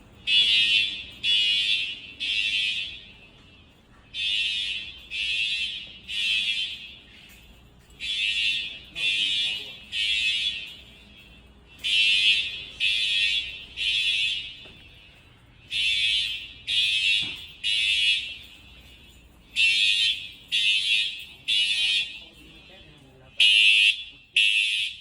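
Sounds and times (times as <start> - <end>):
fire alarm horn blasts: 0.0 - 25.0.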